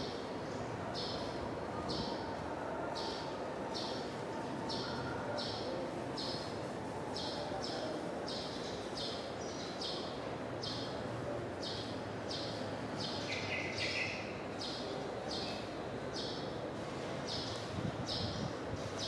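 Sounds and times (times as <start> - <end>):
background noise: 0.0 - 19.0.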